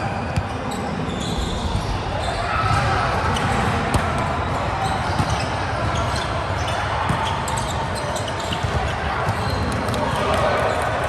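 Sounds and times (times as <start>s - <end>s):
court noise: 0.0s - 11.0s.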